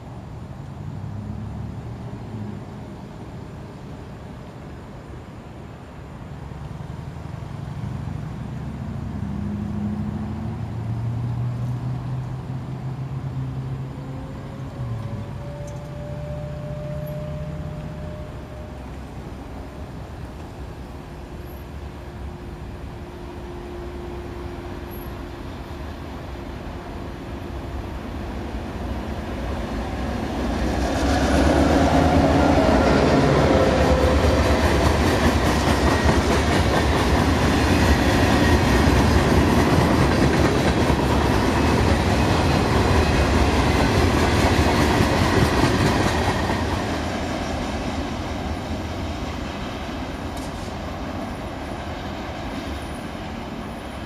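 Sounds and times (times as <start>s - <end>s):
diesel locomotive engine rumble: 0.0s - 54.0s
freight cars rolling by: 0.0s - 54.0s.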